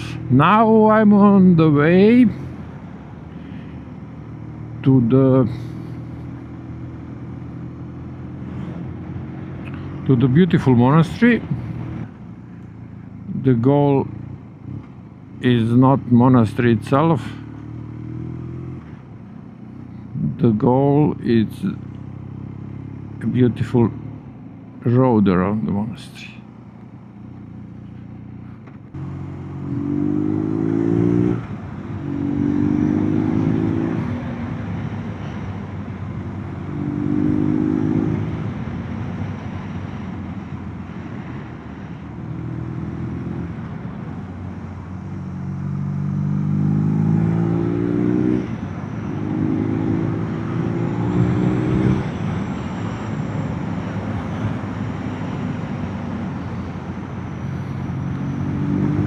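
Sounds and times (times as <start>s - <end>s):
motorcycle engine accelerating: 0.0s - 15.0s, 16.0s - 20.3s, 21.6s - 24.7s, 26.6s - 59.0s.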